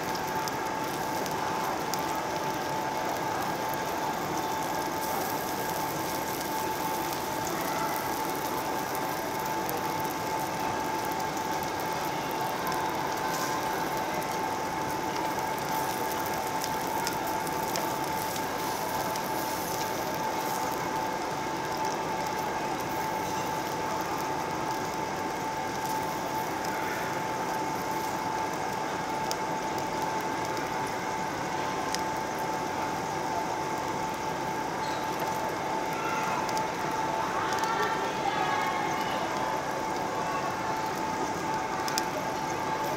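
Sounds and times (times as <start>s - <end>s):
meat sizzling on a grill: 0.0s - 42.9s.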